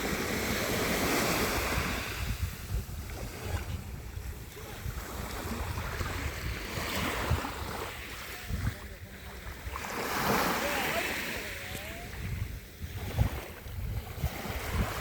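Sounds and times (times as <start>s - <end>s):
waves washing onto shore: 0.0s - 15.0s
wind buffeting microphone: 0.0s - 15.0s.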